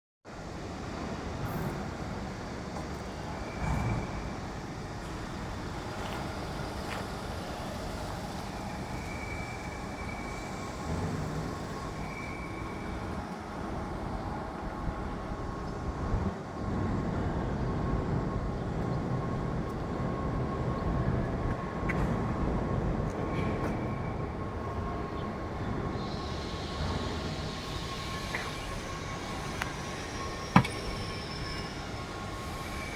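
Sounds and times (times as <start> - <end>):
low rumble of heavy machinery: 0.3 - 32.9.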